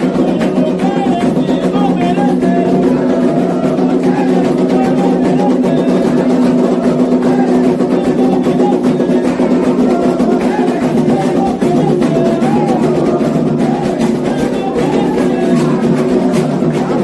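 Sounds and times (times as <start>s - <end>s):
hand drum percussion: 0.0s - 17.0s
voices singing: 0.0s - 17.0s.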